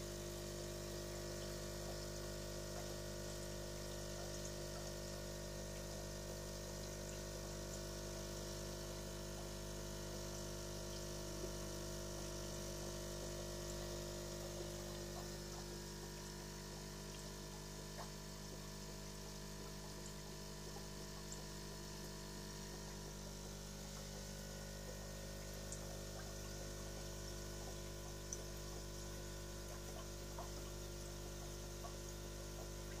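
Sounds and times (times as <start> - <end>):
aquarium filter pump humming: 0.0 - 33.0
water trickling and splashing: 0.3 - 33.0.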